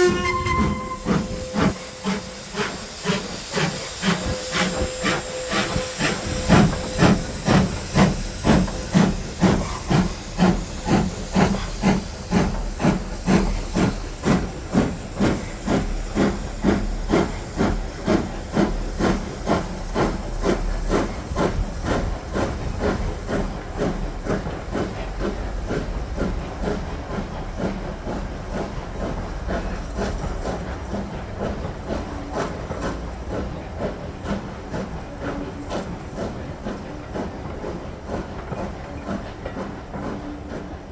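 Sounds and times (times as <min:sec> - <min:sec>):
steam hissing: 0:00.0 - 0:40.9
steam locomotive chuffing: 0:00.0 - 0:40.9.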